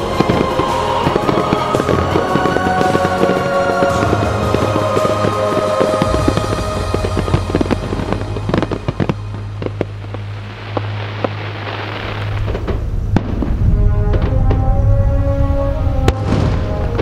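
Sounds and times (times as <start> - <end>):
fireworks bangs and pops: 0.0 - 14.6, 16.1 - 17.0
fireworks hissing crackle: 0.0 - 14.7, 16.1 - 17.0
music with held notes: 0.0 - 17.0
steady low rumble: 0.0 - 17.0.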